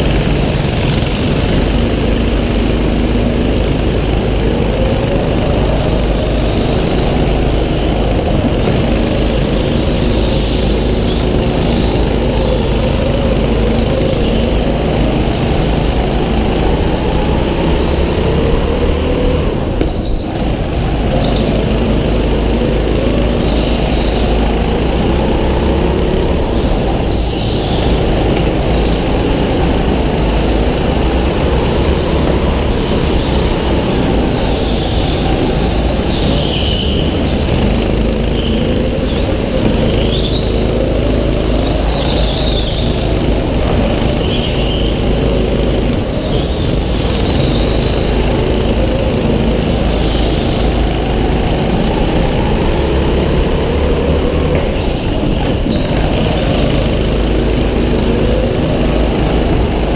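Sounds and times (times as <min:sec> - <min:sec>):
go-kart engine running hard: 0:00.0 - 0:59.9
tyres squealing: 0:00.0 - 0:59.9.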